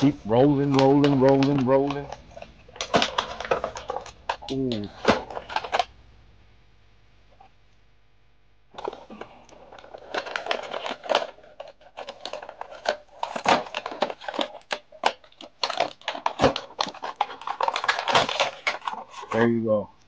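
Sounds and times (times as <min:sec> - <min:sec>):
plastic tray crinkling and scraping: 0:00.0 - 0:05.9, 0:08.8 - 0:19.6.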